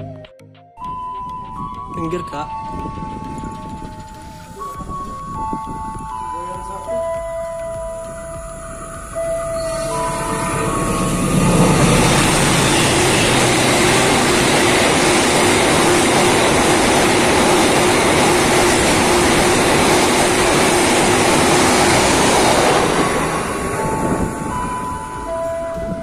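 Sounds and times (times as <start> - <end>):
train passing at speed: 1.2 - 26.0.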